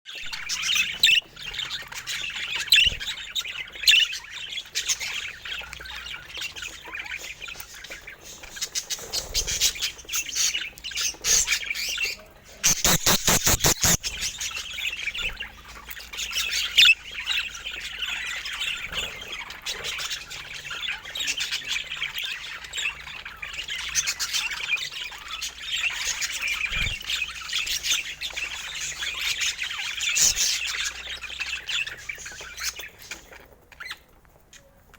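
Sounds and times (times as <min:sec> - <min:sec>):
budgerigars chattering: 0:00.3 - 0:34.0.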